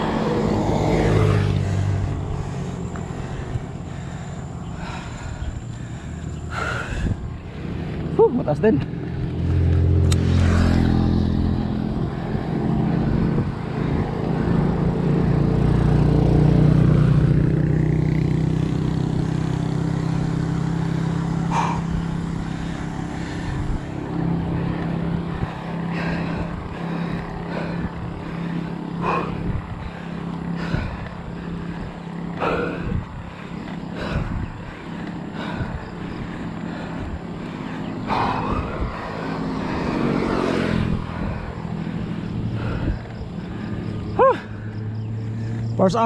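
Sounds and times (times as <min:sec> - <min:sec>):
faint steady engine hum: 0:00.0 - 0:46.0
vehicle engine passing by: 0:00.0 - 0:46.0.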